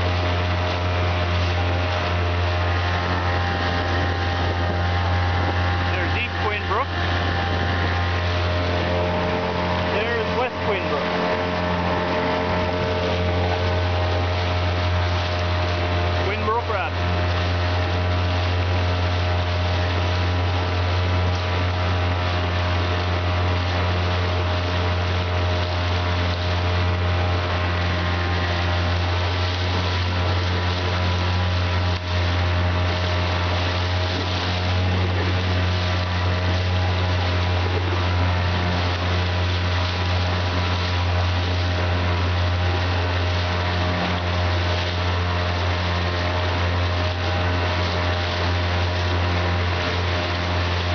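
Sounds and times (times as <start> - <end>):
outboard motor running: 0.0 - 50.9
water rushing along hull: 0.0 - 50.9.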